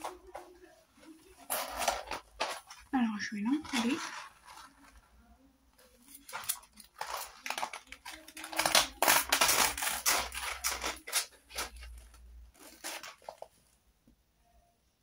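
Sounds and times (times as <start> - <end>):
paper or plastic crinkling: 0.0 - 5.2, 5.8 - 13.7.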